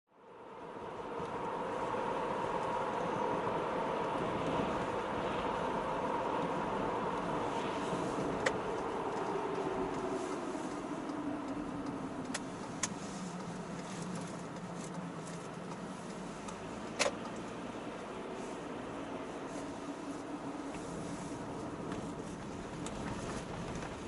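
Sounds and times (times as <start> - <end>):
vehicle running with steady hum: 0.1 - 24.0.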